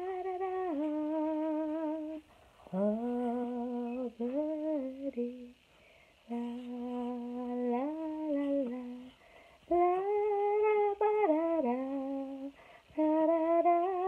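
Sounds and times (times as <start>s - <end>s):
woman humming a tune: 0.0s - 5.6s, 6.3s - 14.0s.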